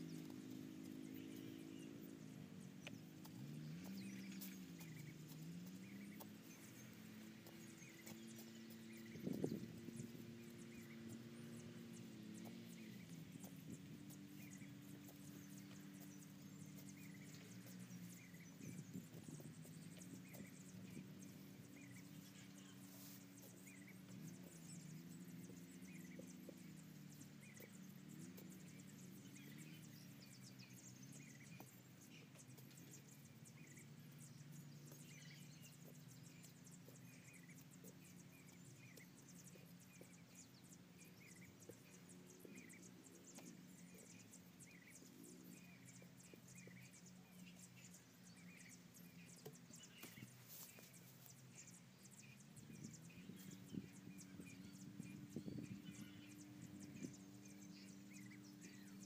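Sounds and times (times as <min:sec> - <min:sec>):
low wavering hum: 0:00.0 - 0:59.0.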